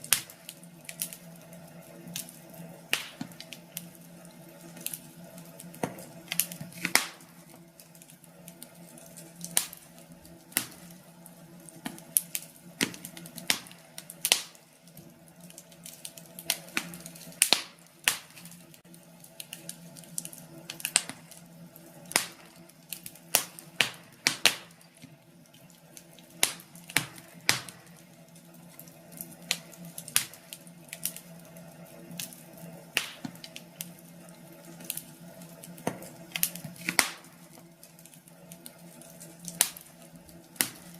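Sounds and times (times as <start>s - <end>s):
faint steady hum: 0.0s - 40.9s
wood fire crackling: 0.0s - 40.9s.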